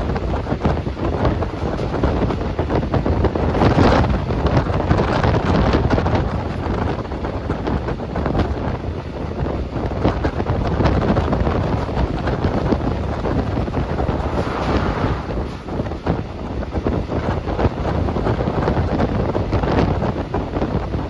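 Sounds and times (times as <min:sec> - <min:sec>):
moving train rumble: 0:00.0 - 0:21.0
wind buffeting microphone: 0:00.0 - 0:21.0.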